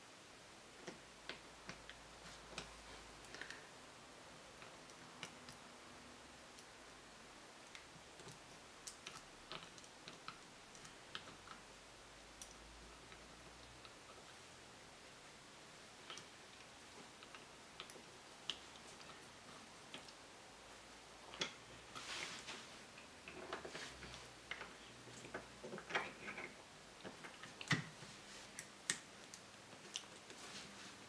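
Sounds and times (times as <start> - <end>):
steady low hiss: 0.0 - 31.0.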